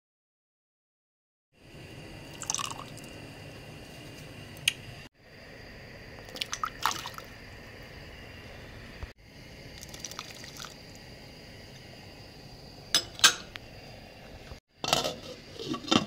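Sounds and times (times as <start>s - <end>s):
pot of water hissing on stove: 1.6s - 16.0s.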